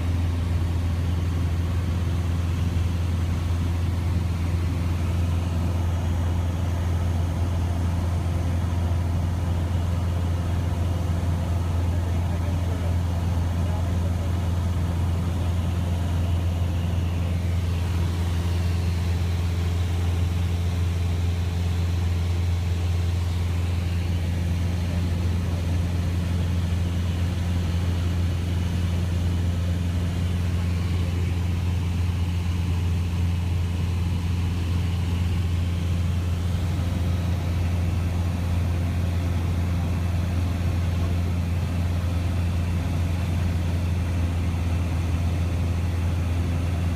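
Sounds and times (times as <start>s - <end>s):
aircraft engine and propeller droning: 0.0s - 46.9s.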